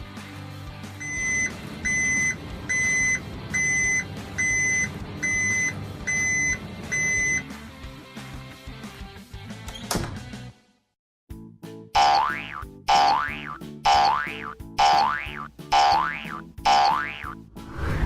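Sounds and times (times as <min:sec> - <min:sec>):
cheerful background music: 0:00.0 - 0:10.7, 0:11.3 - 0:18.0.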